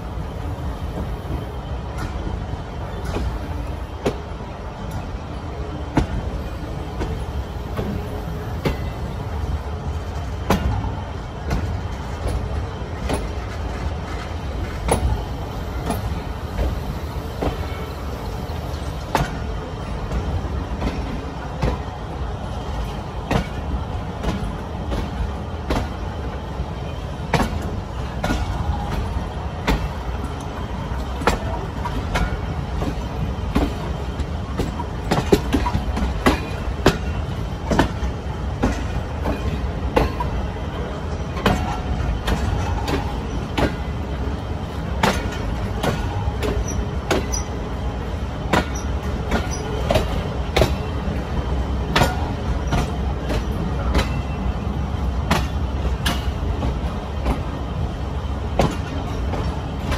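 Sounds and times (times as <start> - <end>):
train wheels clicking on joints: 0.0 - 5.2, 5.8 - 59.9
train low rumble: 0.0 - 59.9.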